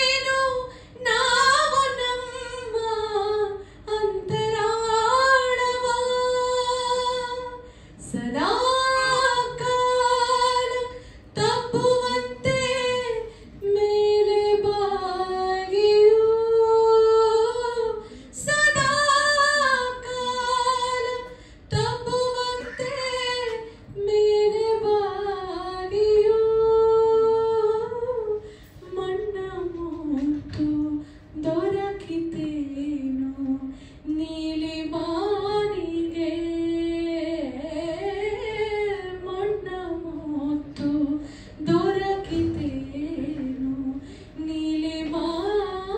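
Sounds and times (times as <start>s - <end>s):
woman singing unaccompanied: 0.0s - 45.9s.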